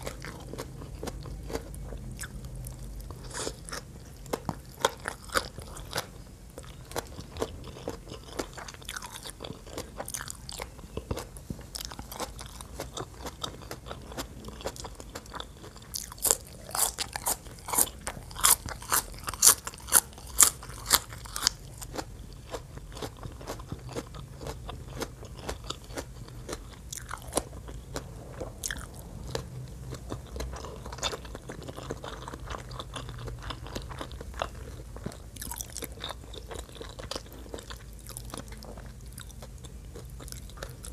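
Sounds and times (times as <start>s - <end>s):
mouth chewing and crunching: 0.0s - 40.9s.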